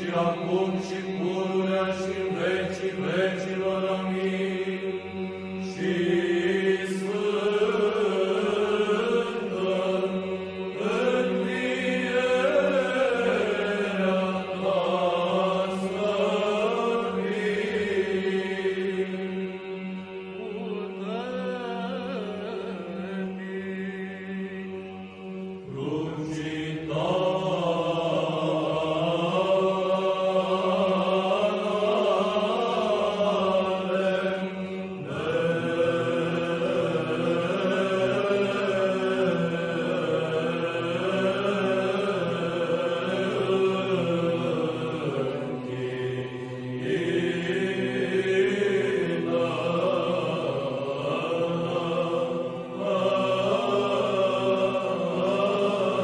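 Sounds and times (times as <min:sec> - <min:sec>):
voices chanting slow melody: 0:00.0 - 0:56.0.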